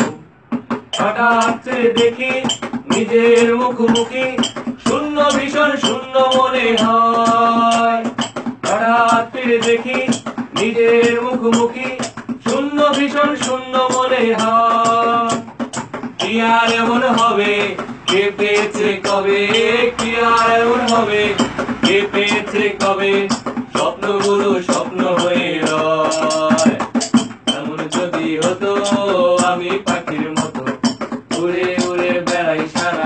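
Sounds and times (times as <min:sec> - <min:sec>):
young man singing: 0:00.0 - 0:00.3, 0:00.9 - 0:15.6, 0:16.2 - 0:33.0.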